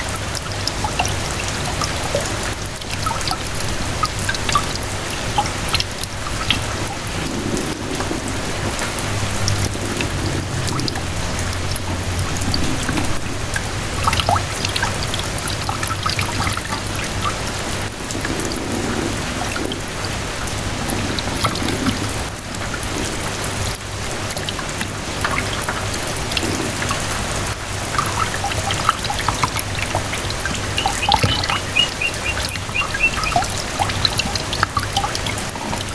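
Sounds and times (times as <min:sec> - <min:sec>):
rain drops pattering: 0:00.0 - 0:35.9
water trickling and dripping: 0:00.0 - 0:35.9.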